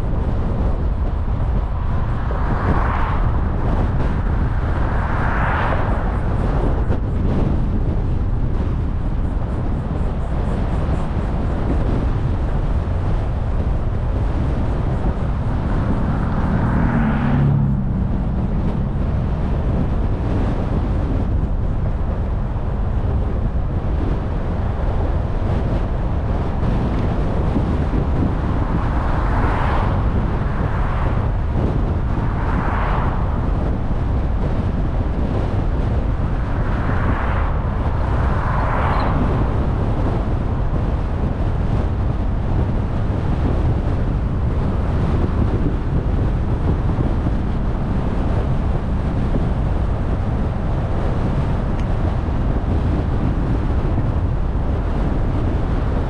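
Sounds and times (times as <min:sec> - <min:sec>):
car road and tyre noise: 0:00.0 - 0:56.0
vehicles passing: 0:00.0 - 0:56.0.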